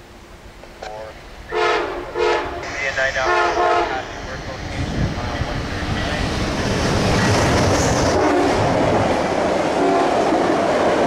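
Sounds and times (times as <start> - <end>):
passenger train rumbling past: 0.0 - 11.0.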